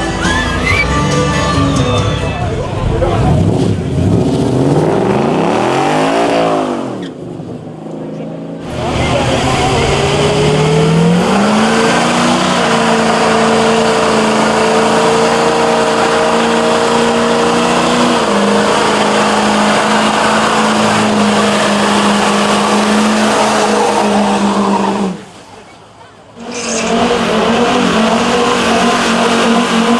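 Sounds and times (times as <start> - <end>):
car engine revving high: 0.0 - 7.1, 8.6 - 25.3, 26.4 - 29.9
spinning tyres hissing: 0.0 - 7.2, 8.6 - 25.7.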